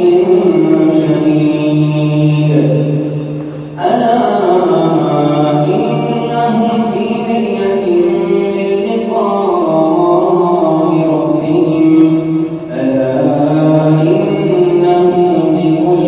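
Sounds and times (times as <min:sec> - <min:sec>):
man reciting in melodic chant: 0:00.0 - 0:16.0.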